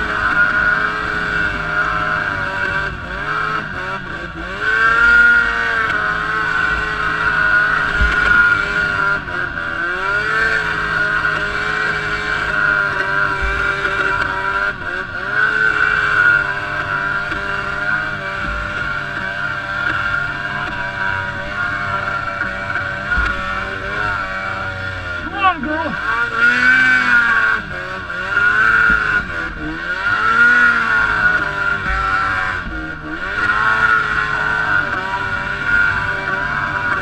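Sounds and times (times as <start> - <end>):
two-stroke engine whining hum: 0.0 - 37.0.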